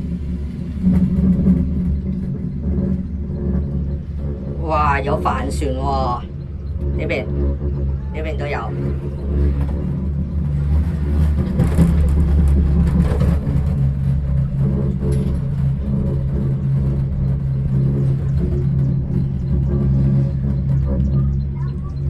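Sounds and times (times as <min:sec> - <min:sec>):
cable car mechanical hum: 0:00.0 - 0:22.0.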